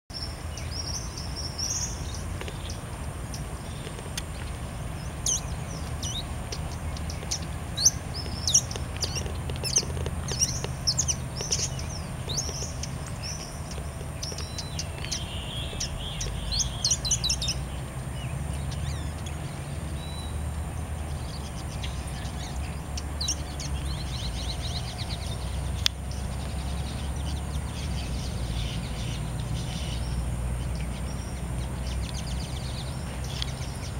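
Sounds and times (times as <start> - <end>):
steady low rumble: 0.1 - 33.9.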